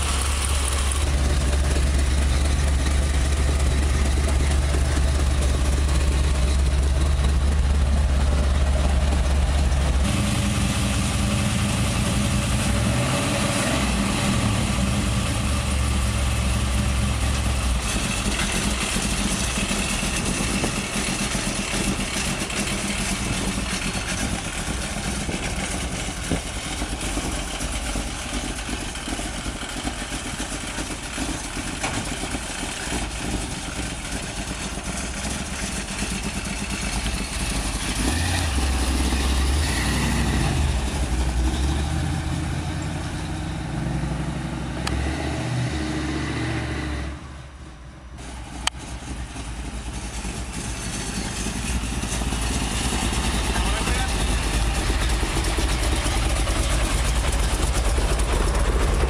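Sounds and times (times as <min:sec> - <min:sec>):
car engine deep rumble: 0:00.0 - 0:59.0.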